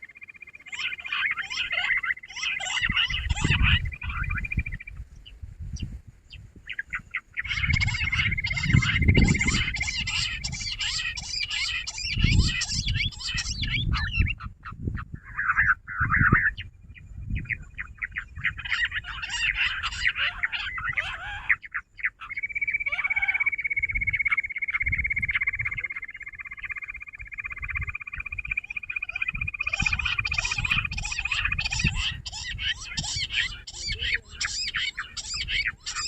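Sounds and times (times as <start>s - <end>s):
quail chattering chirps: 0.0s - 36.0s.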